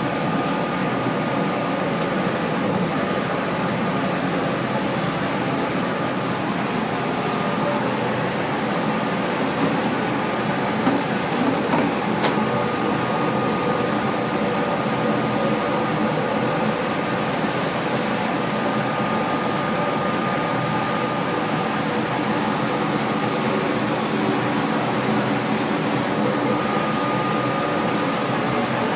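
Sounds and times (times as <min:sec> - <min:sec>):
boiler plant machinery noise: 0:00.0 - 0:28.9
thin steady whine: 0:00.0 - 0:28.9.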